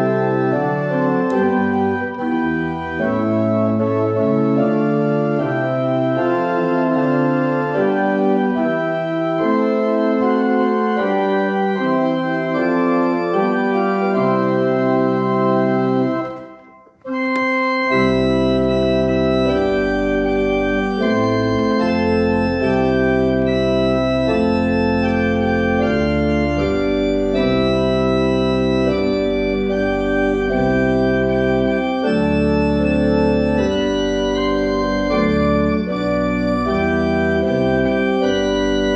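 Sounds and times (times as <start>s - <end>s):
church organ playing hymn chords: 0.0s - 38.9s
deep organ bass pedal notes: 0.0s - 38.9s.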